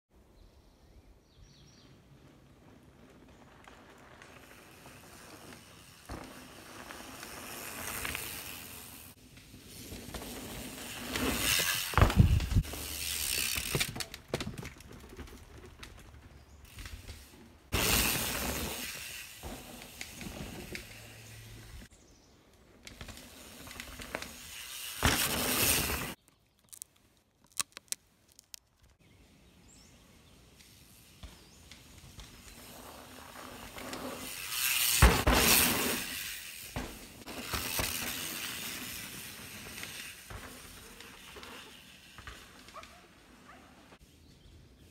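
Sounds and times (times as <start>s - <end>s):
bike tyres on dirt and gravel: 1.3s - 44.9s
bike rattling: 2.0s - 21.9s, 22.6s - 26.9s, 30.2s - 44.0s.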